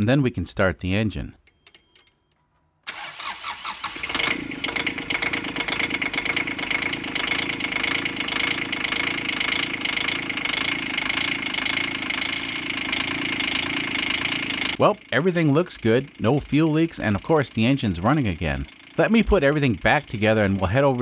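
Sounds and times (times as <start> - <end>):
diesel engine starting and running: 2.9 - 21.0.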